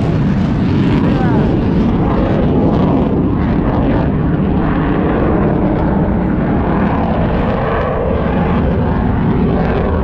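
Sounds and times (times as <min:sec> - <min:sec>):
aircraft engine rumble: 0:00.0 - 0:10.0.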